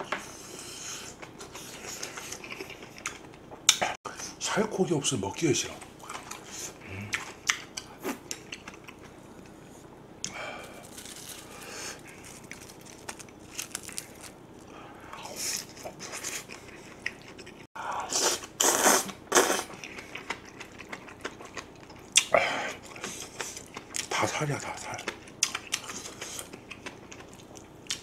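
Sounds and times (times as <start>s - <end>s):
person chewing and crunching: 0.6s - 3.8s, 6.0s - 9.6s, 10.2s - 28.0s.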